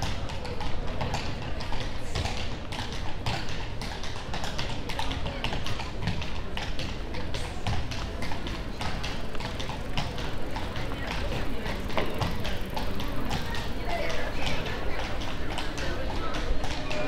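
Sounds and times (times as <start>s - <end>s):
horse hooves clip-clopping on street: 0.0s - 17.0s.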